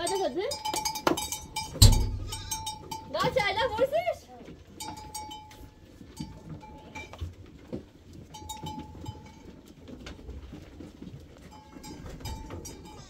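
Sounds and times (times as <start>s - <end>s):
livestock bells clanging: 0.0s - 10.0s, 11.3s - 13.0s.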